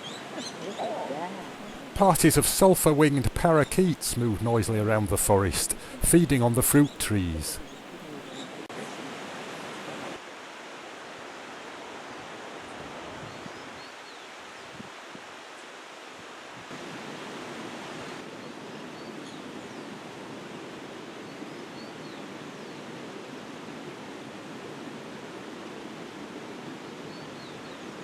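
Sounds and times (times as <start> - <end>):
rushing forest ambience: 0.0 - 28.0.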